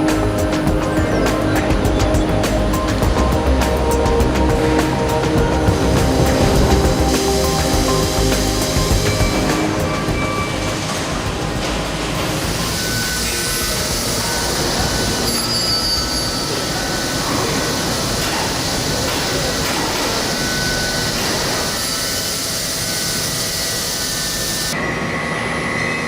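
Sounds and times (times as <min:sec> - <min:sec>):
high-pitched spindle tones: 0:00.0 - 0:26.0
machine cutting metal: 0:00.0 - 0:26.0.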